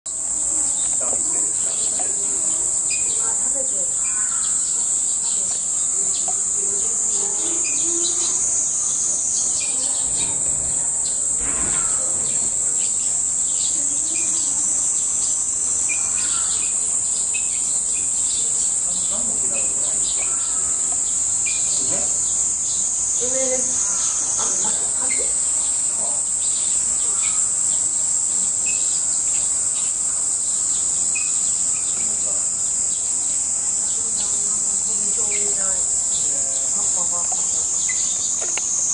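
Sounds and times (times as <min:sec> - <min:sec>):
faint distant voices: 0:00.1 - 0:38.9
high-pitched insect chorus: 0:00.1 - 0:38.9.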